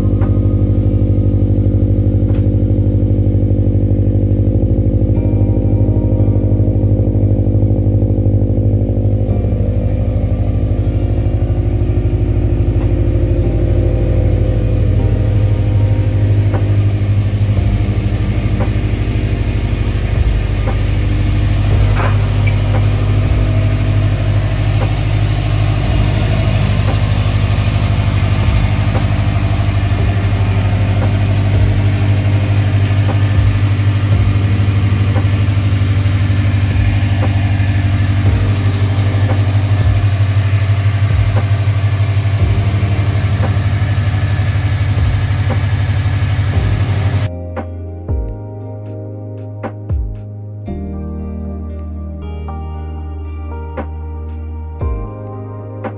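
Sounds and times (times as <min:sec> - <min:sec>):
car engine idling: 0:00.0 - 0:47.3.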